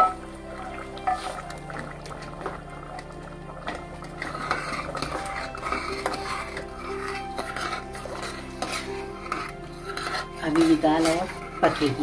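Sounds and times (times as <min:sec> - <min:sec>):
spoon scraping metal pot: 0:00.0 - 0:12.0.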